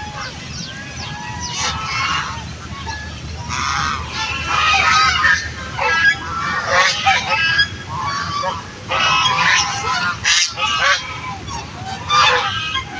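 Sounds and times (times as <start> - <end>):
ducks quacking: 0.0 - 12.9.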